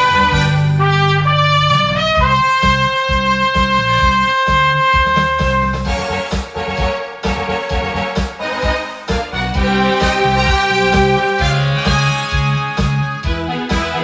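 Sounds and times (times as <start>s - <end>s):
bass and drums accompaniment: 0.0s - 14.0s
cornet melody: 0.0s - 14.0s.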